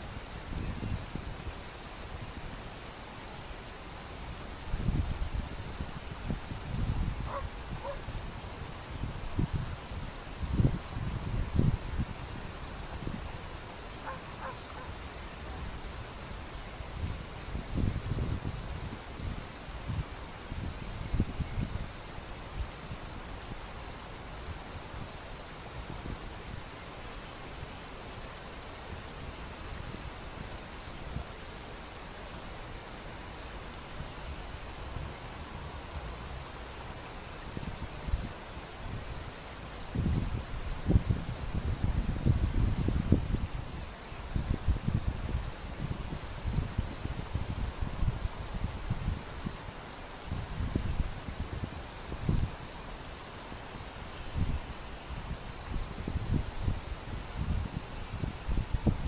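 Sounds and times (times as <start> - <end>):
wind rumble on microphone: 0.0 - 27.8, 32.8 - 59.0.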